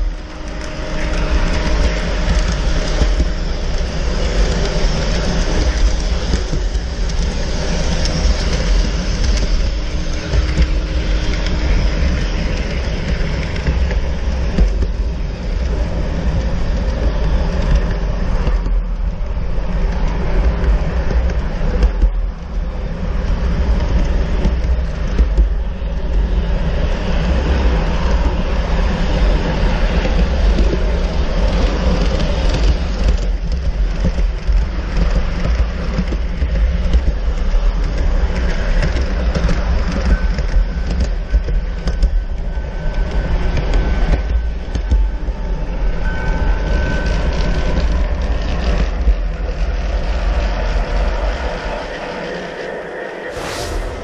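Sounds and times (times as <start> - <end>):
model train wheels rumbling on rails: 0.0 - 52.8.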